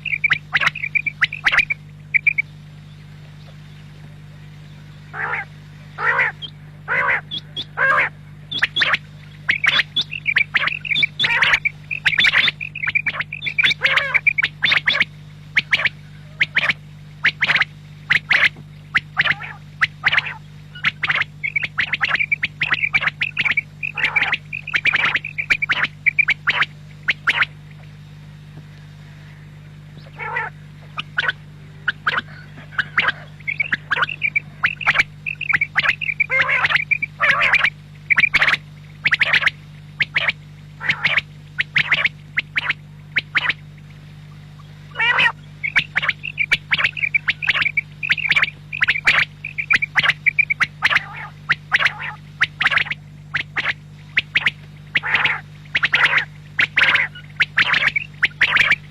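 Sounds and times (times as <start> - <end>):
quail calling: 0.0 - 28.2, 28.8 - 58.9
steady low hum: 0.0 - 58.9.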